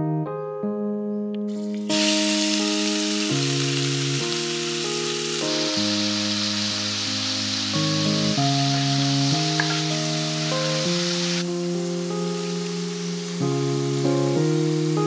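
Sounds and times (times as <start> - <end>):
keyboard music: 0.0 - 15.0
meat sizzling in a pan: 1.6 - 15.0.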